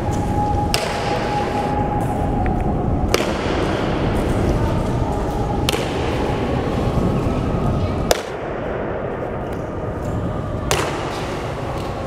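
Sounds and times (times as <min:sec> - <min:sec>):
background murmur: 0:00.0 - 0:12.0.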